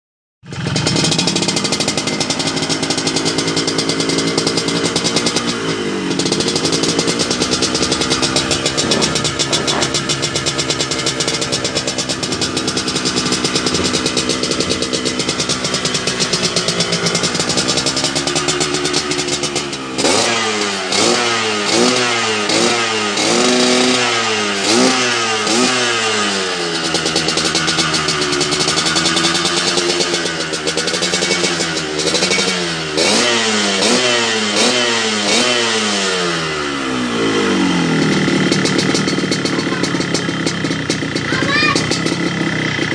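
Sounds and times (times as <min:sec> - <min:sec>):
motorcycle engine revving: 0:00.4 - 0:42.9.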